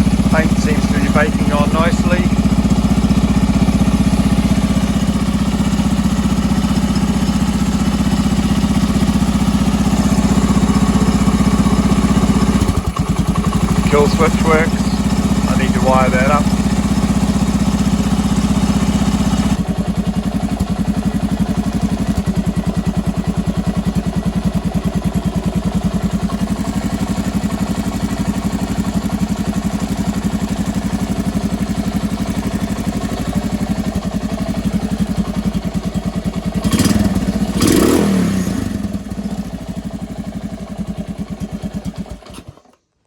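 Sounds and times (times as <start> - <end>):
motorcycle engine idling: 0.0 - 42.8.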